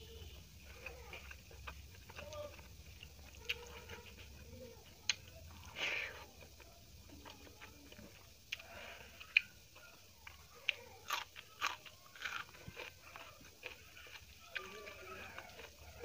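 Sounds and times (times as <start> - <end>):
person chewing food: 0.1 - 16.0
crunchy bites: 0.6 - 16.0.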